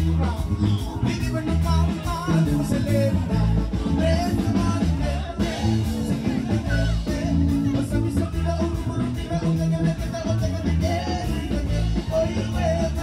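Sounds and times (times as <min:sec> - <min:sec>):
live band playing dance music: 0:00.0 - 0:13.0
person singing: 0:00.0 - 0:13.0.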